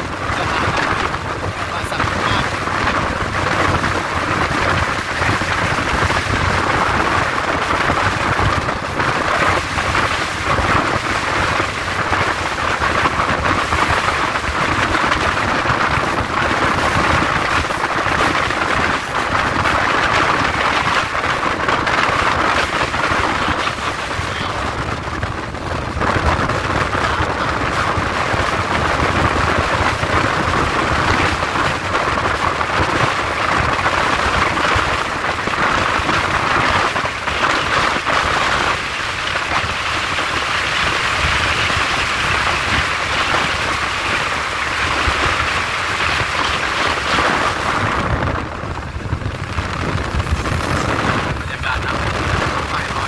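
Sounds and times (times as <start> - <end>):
train wheels rumbling on track: 0.0 - 53.0
wind over microphone: 0.0 - 53.0.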